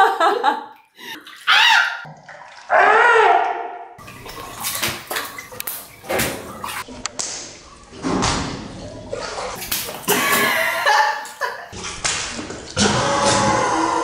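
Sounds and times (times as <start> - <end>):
bathwater sloshing and splashing: 0.7 - 2.8, 3.4 - 13.9.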